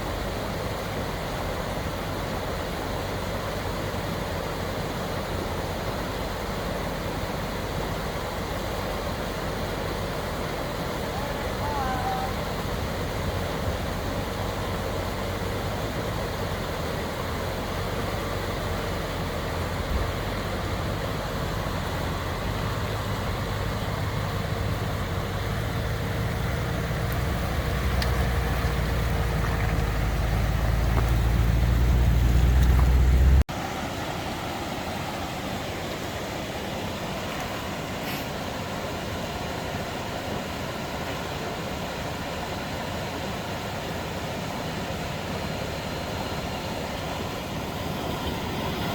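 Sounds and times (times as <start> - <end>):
engine drone: 0.0 - 48.9
road noise: 0.0 - 48.9.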